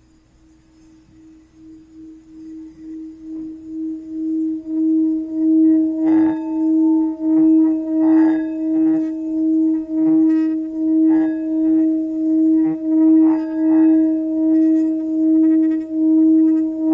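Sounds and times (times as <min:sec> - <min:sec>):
singing bowl ringing: 0:00.0 - 0:16.9
singing bowl strikes: 0:00.7 - 0:16.9.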